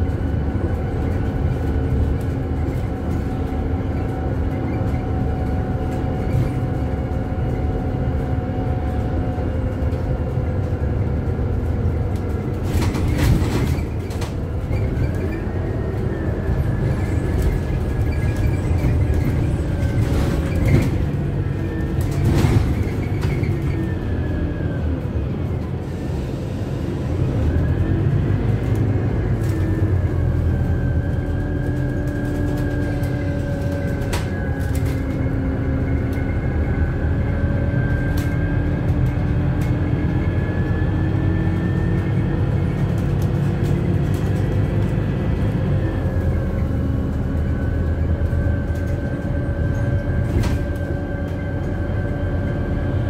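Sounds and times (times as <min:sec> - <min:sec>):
bus engine rumble: 0:00.0 - 0:53.0.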